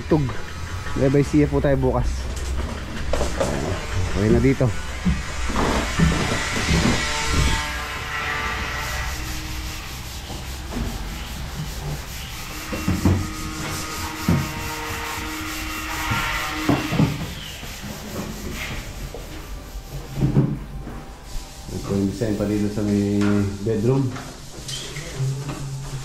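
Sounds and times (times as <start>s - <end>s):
construction rubbing noise: 0.0s - 26.0s.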